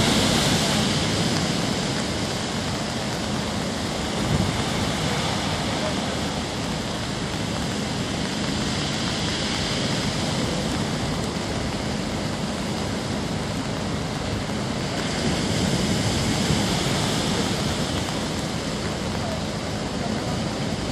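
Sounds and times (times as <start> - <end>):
surf breaking on a seawall: 0.0 - 20.9.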